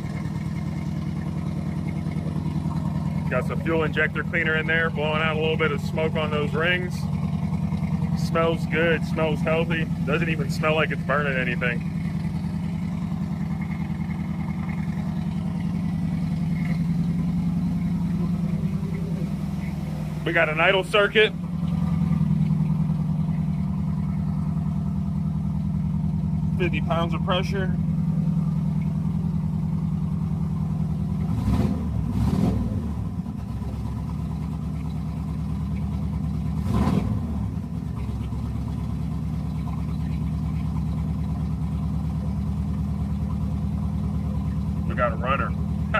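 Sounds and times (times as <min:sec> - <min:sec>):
car engine idling: 0:00.0 - 0:45.9
engine throttle blips: 0:00.0 - 0:45.9.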